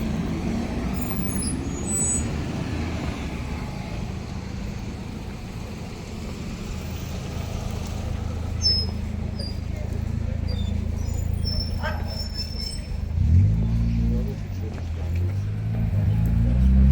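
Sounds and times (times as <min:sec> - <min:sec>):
traffic rumble: 0:00.0 - 0:16.9.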